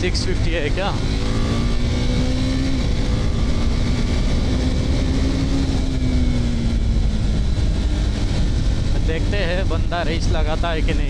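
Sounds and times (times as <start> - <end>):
motorcycle engine cruising: 0.0 - 11.0
wind rush on microphone: 0.0 - 11.0.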